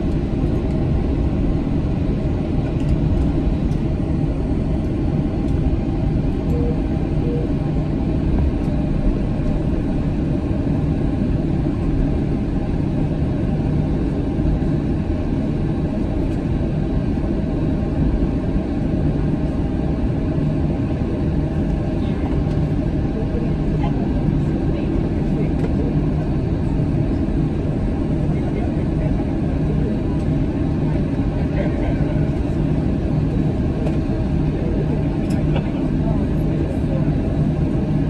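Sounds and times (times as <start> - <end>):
jet engines idling in cabin: 0.0 - 38.0.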